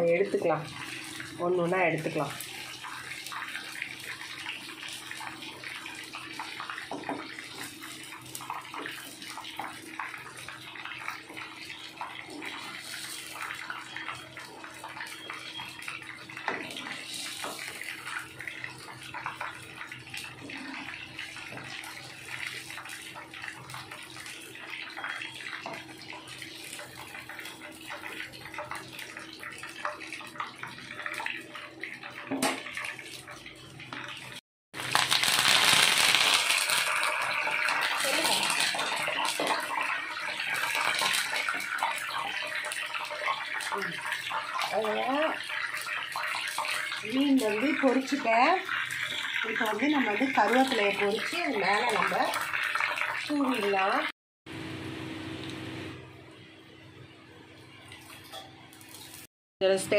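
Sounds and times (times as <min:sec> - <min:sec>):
fish deep-frying in hot oil: 0:00.0 - 0:59.9.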